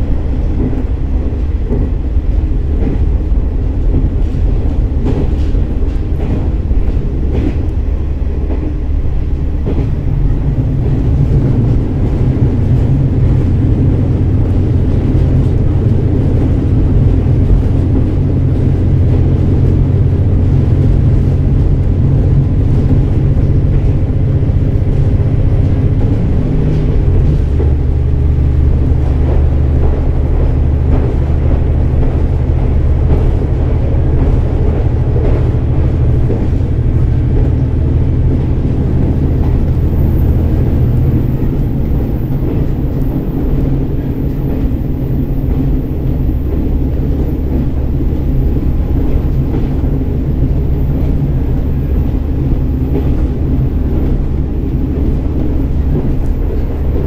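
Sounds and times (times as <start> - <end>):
diesel engine drone: 0.0 - 57.0
train wheel and rail rumble: 0.0 - 57.0.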